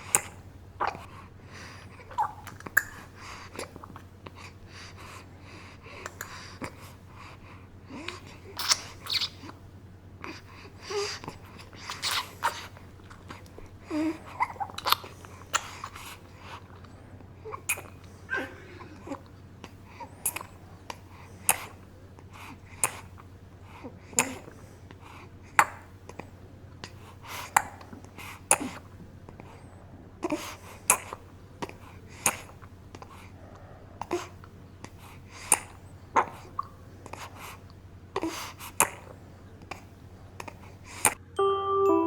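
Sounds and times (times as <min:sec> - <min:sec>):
baby sucking and gulping: 0:00.0 - 0:09.7, 0:10.3 - 0:23.3, 0:24.0 - 0:33.4, 0:34.0 - 0:41.2.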